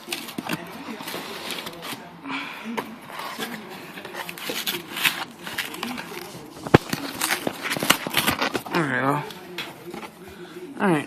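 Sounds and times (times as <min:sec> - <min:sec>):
cardboard box and packets rustling: 0:00.0 - 0:10.6.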